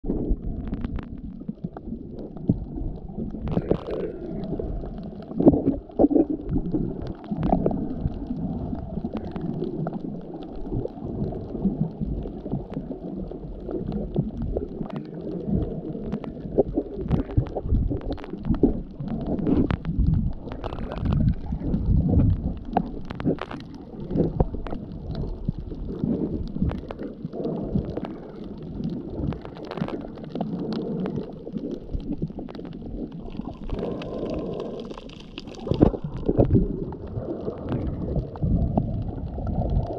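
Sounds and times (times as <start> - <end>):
small underwater clicks and pops: 0.0 - 39.9
underwater rumbling water: 0.0 - 39.9.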